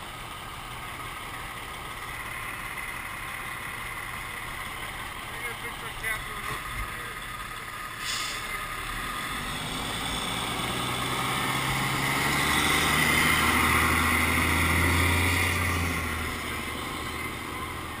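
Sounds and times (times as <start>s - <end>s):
fire truck engine driving past: 0.0s - 18.0s.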